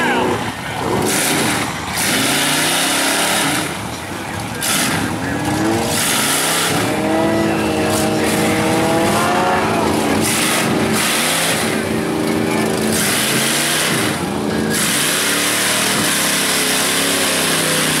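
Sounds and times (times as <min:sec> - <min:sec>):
truck engine revving: 0:00.0 - 0:18.0
tyres rushing through mud: 0:00.0 - 0:18.0.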